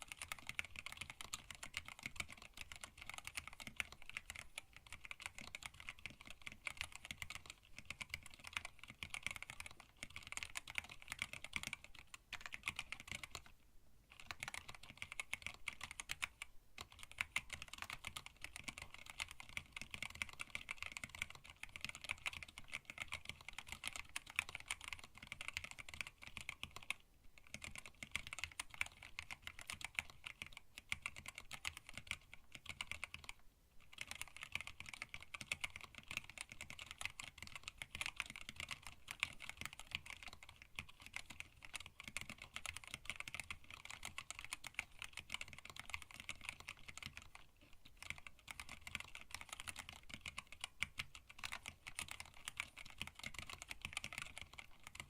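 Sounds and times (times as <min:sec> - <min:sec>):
fast mechanical keyboard typing: 0:00.0 - 0:13.5, 0:14.1 - 0:55.0.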